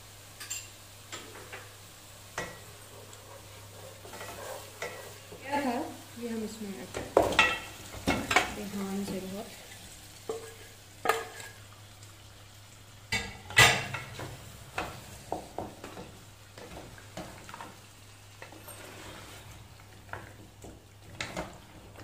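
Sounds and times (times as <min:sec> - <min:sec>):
faint sizzle of frying: 0:00.0 - 0:22.0.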